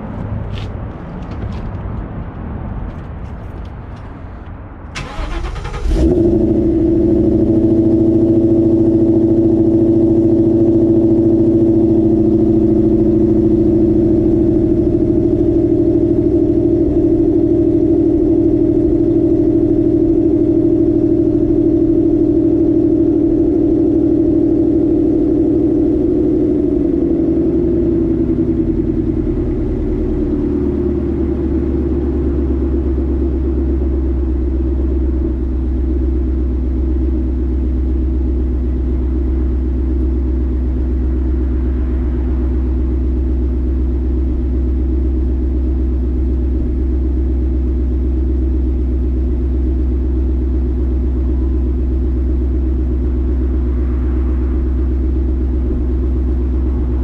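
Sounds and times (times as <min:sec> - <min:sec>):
car engine idling with lope: 0:00.0 - 0:57.0.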